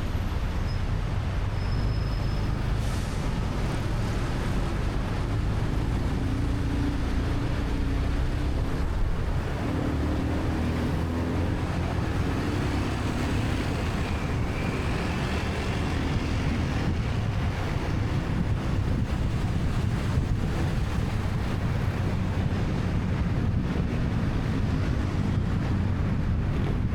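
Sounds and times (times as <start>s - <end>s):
wind noise on microphone: 0.0s - 26.9s.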